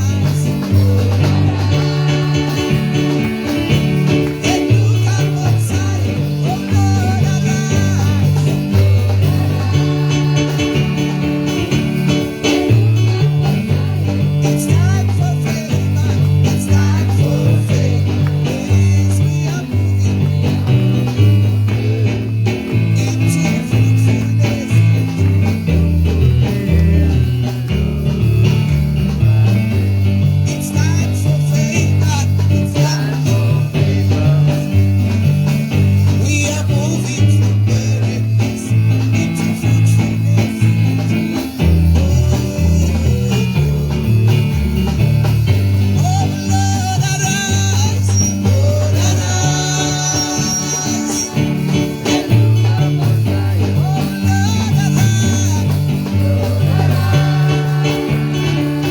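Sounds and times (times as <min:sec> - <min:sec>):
bass line: 0:00.0 - 0:58.9
guitar: 0:00.0 - 0:58.9
worship band music: 0:00.0 - 0:58.9.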